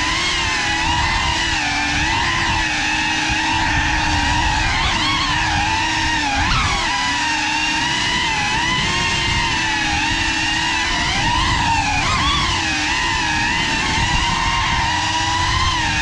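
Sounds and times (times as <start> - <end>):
drone whining in flight: 0.0 - 16.0.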